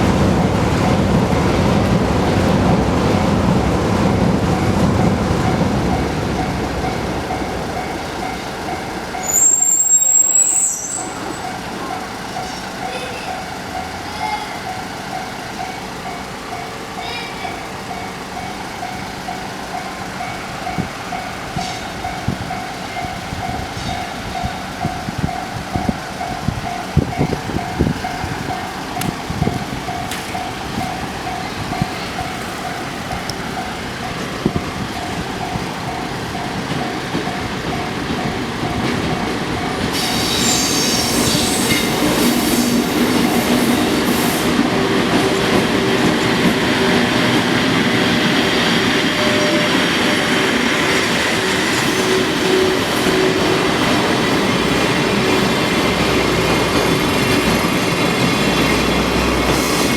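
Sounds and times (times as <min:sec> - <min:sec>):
train wheels clattering over rail joints: 0:00.0 - 0:59.9
level-crossing alarm bell ringing: 0:00.8 - 0:59.5
wheels squealing: 0:04.6 - 0:59.9.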